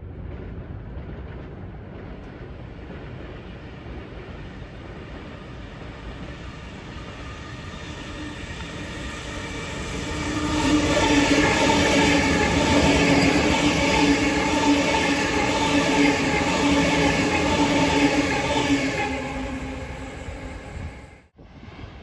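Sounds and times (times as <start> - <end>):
train wheels rumbling on rail: 0.0 - 21.4
train whine: 2.0 - 21.9.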